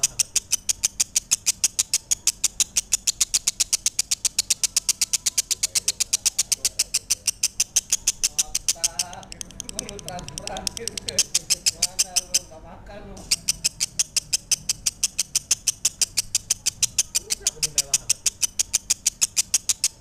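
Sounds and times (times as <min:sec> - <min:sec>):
bird chirping high-pitched: 0:00.0 - 0:20.0.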